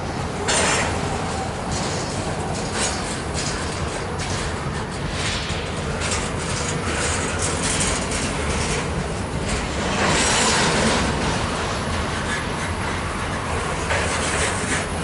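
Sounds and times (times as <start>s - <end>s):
freight train wheels rumbling: 0.0s - 15.0s
wheels clicking on rail joints: 0.0s - 15.0s.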